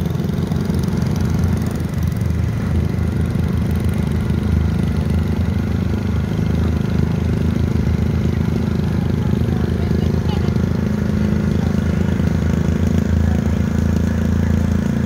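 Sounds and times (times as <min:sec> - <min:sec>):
small engines rumbling: 0:00.0 - 0:15.0.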